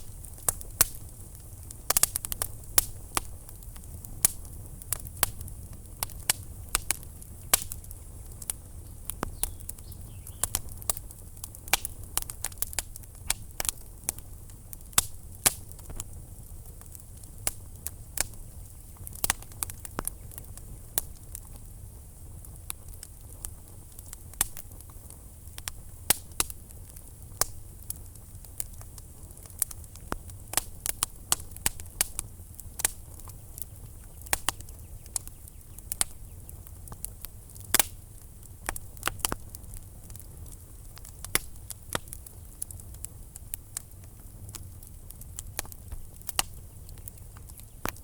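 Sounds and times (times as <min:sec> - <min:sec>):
logs popping and crackling: 0:00.0 - 0:48.0
low rumble of flames: 0:00.0 - 0:48.0.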